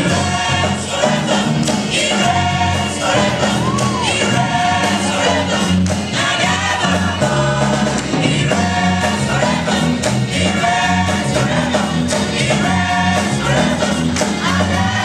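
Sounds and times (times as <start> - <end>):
gospel choir singing with band: 0.0 - 15.0.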